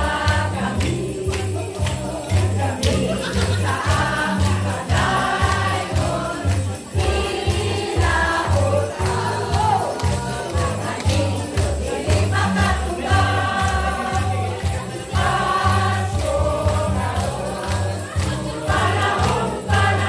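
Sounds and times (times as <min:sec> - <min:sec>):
group singing in unison: 0:00.0 - 0:20.0.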